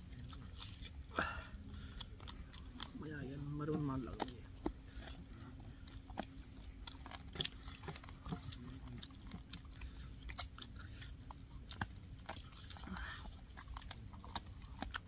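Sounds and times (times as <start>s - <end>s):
faint steady hum: 0.0s - 15.0s
person chewing with mouth clicks: 0.0s - 15.0s.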